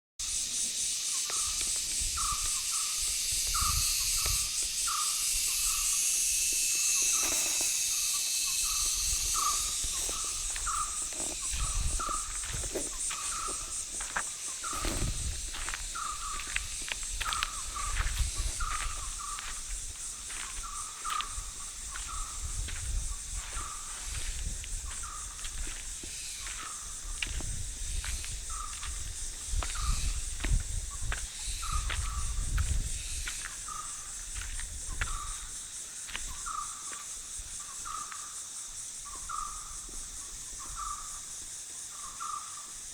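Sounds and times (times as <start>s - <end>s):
insects chirping: 0.2s - 42.9s.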